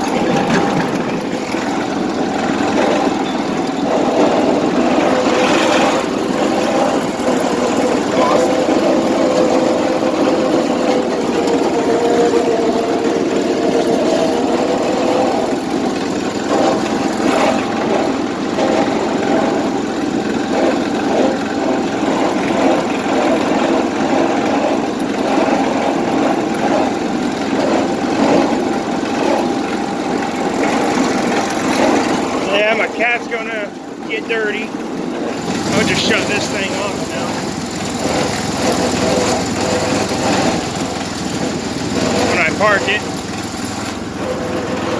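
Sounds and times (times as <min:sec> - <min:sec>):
machine rattling and clicking: 0:00.0 - 0:44.9
tractor engine running: 0:00.0 - 0:44.9.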